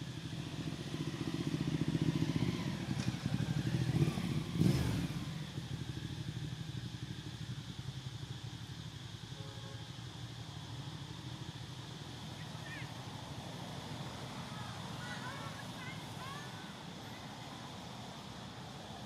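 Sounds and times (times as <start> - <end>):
motor vehicle engine running: 0.0 - 19.0.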